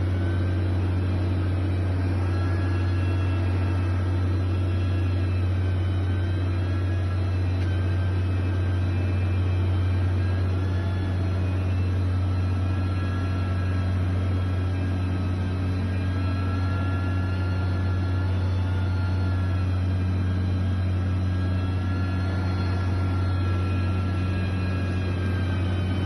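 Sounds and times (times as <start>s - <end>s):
faint high whining tones: 0.0s - 26.0s
heavy machinery engine drone: 0.0s - 26.0s.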